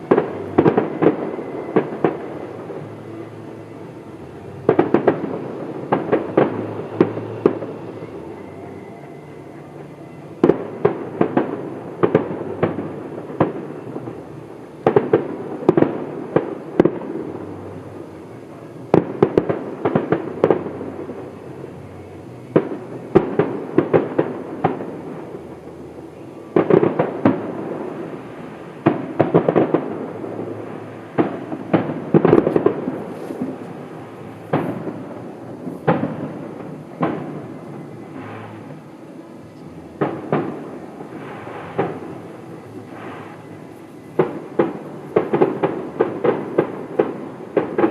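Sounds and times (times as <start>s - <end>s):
fireworks bursting and crackling: 0.0s - 47.9s.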